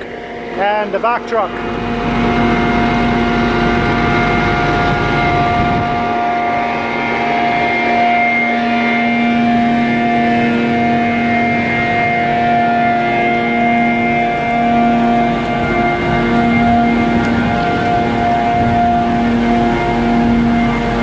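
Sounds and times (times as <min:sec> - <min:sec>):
vacuum equipment droning with whine: 0:00.0 - 0:21.0.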